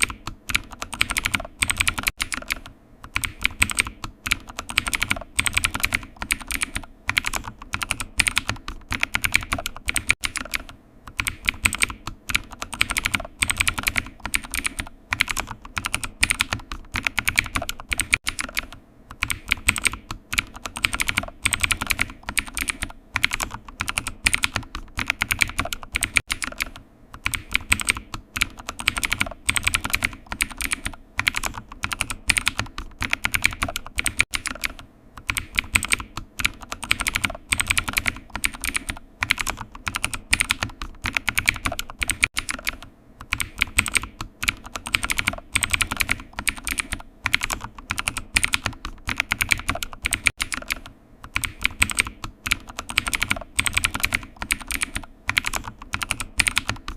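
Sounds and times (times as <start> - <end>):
keyboard typing clicks: 0.0 - 56.9.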